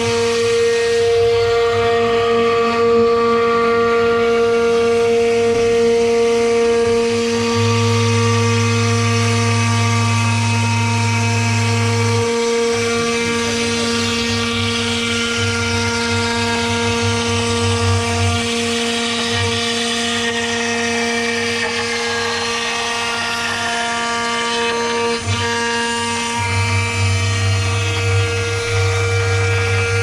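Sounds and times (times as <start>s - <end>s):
router spindle whine: 0.0s - 30.0s.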